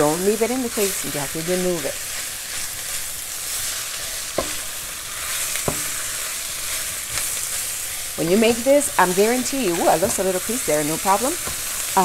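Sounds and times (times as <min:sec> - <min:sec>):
meat and onion sizzling in a pan: 0:00.0 - 0:12.0
spatula stirring in a pan: 0:02.0 - 0:12.0.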